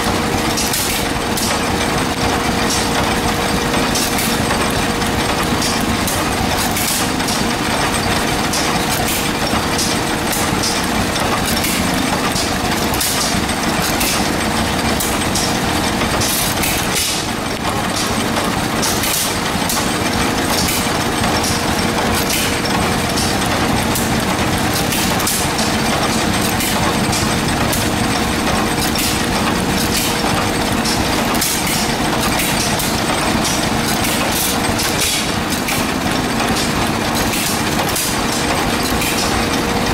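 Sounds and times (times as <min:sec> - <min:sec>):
engine clatter and hum: 0:00.0 - 0:39.9.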